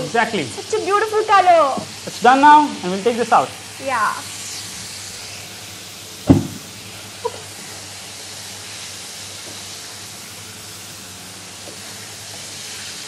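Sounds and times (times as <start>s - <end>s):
oil sizzling in wok: 0.0s - 13.0s.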